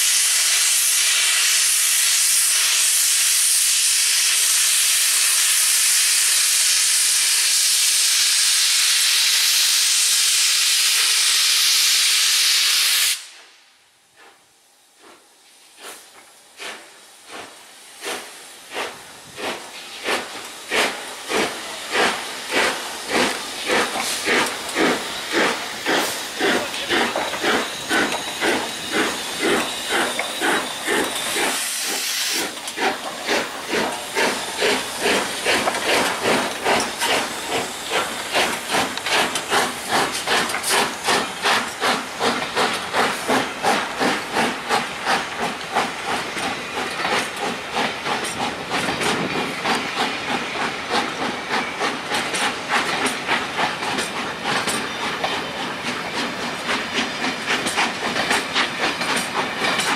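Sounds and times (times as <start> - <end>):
loud steam hiss: 0.0 - 59.9
steam locomotive exhaust beats: 0.0 - 59.9.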